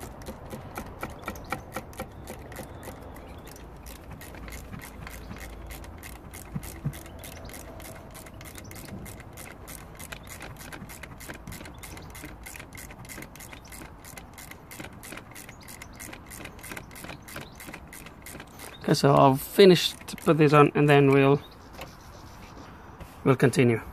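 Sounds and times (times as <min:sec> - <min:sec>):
ratchet wrench clicking: 0:00.0 - 0:21.2.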